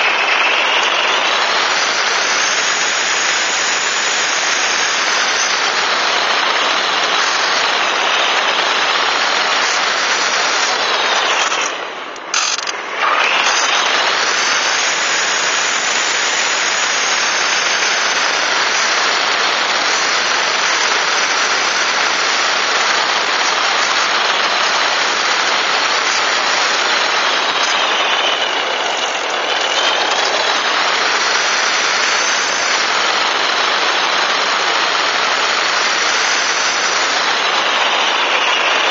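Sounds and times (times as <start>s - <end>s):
model plane motor and propeller: 0.0s - 38.9s
rushing air: 0.0s - 38.9s.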